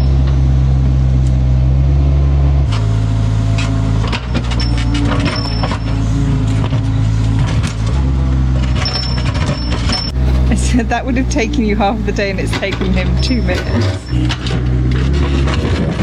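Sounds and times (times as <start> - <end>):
excavator engine under load: 0.0 - 16.0.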